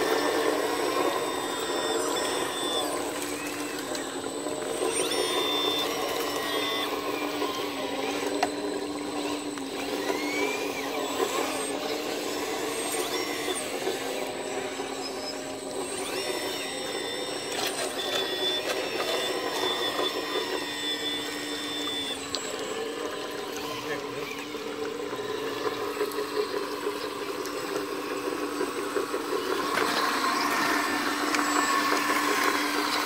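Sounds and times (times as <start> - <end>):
excavator pump whining: 0.0 - 33.0
higher hydraulic whining tones: 0.0 - 33.0.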